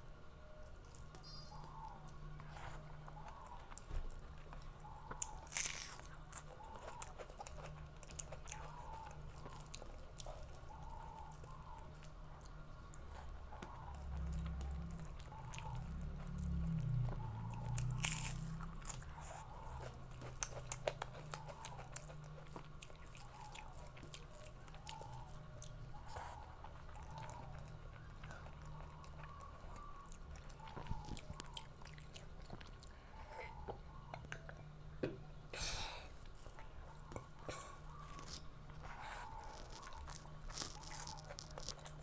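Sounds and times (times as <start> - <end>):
steady low hum: 0.0 - 42.0
chewing and crunching food: 0.2 - 42.0.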